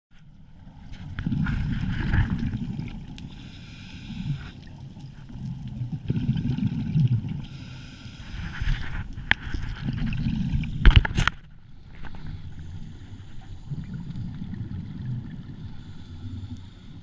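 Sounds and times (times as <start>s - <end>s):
underwater bubbles gurgling: 0.3s - 17.0s.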